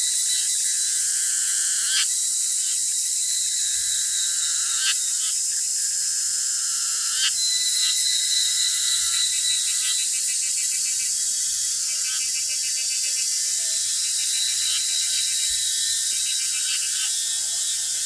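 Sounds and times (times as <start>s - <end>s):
insect chorus hiss: 0.0s - 18.0s
insect trills: 0.0s - 18.0s.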